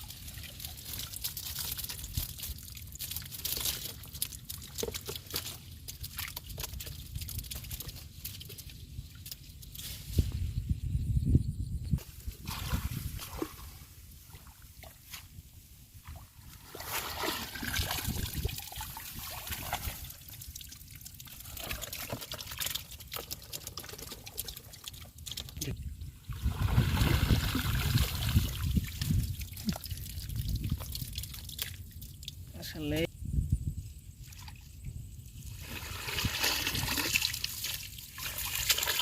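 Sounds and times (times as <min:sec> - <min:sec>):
water trickling and splashing: 0:00.0 - 0:10.3, 0:12.0 - 0:33.1, 0:34.1 - 0:39.0.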